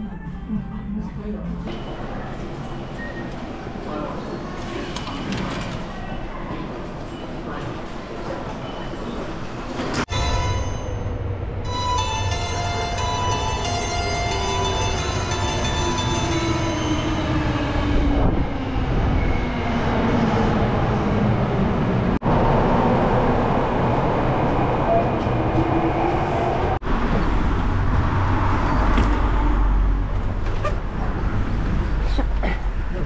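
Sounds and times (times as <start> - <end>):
subway train running with motor whine: 0.0 - 33.0.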